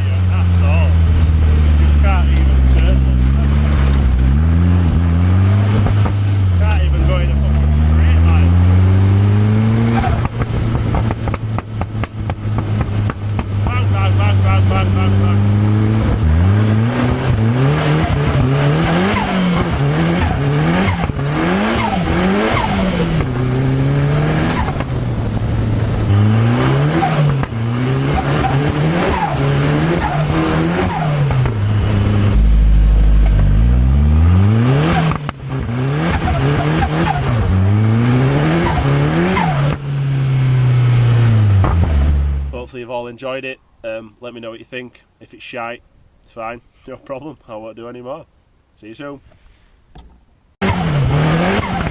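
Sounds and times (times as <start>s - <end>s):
car engine revving: 0.0s - 42.6s, 50.6s - 51.9s.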